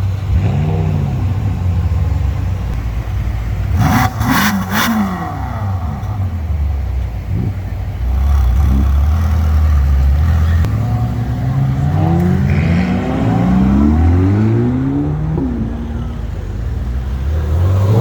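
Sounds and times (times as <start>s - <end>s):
car engines revving: 0.0s - 18.0s
passing cars rumble: 0.0s - 18.0s.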